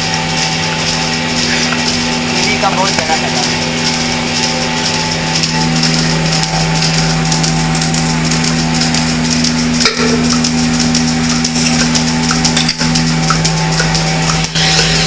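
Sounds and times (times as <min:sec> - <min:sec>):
machinery humming: 0:00.0 - 0:15.0
rapid clicking rattle: 0:00.0 - 0:15.0.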